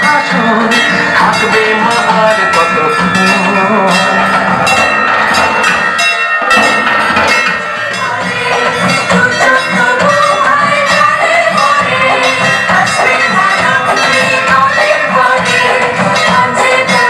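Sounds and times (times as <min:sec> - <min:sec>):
music with steady beat: 0:00.0 - 0:17.0.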